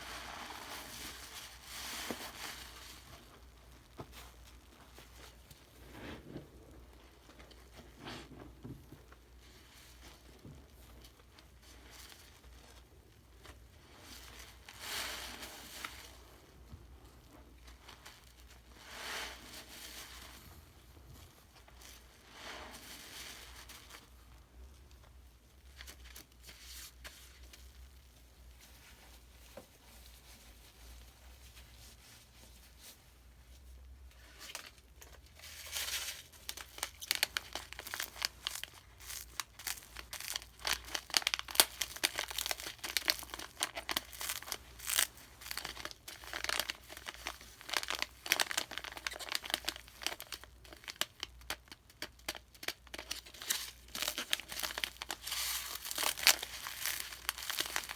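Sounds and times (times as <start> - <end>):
crackling and crinkling: 0.0 - 57.9.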